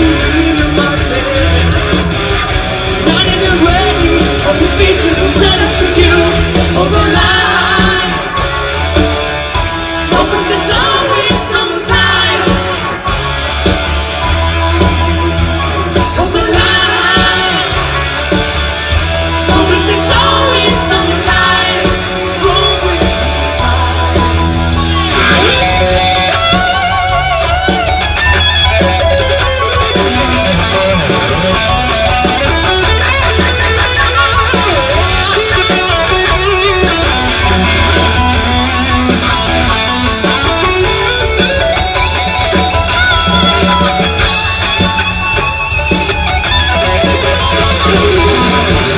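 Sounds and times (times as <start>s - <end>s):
bass guitar: 0.0s - 48.9s
drums and cymbals: 0.0s - 48.9s
electric guitar: 0.0s - 48.9s.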